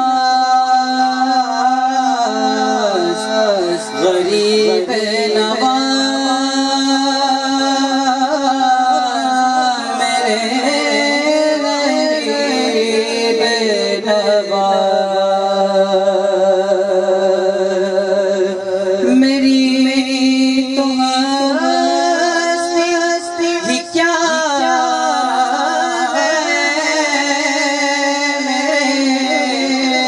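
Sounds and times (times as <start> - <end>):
man singing into microphone: 0.0 - 30.0.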